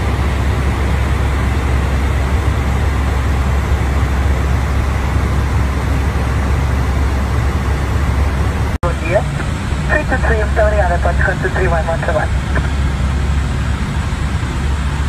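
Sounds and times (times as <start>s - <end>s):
constant low hum: 0.0s - 15.0s
steady rushing noise: 0.0s - 15.0s.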